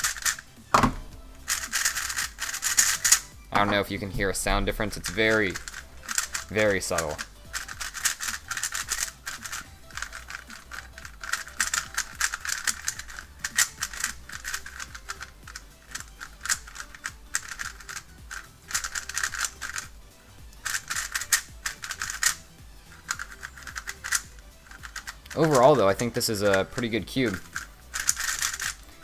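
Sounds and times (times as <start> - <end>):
plastic puzzle cube clicking: 0.0 - 3.7, 5.0 - 20.0, 20.6 - 29.0.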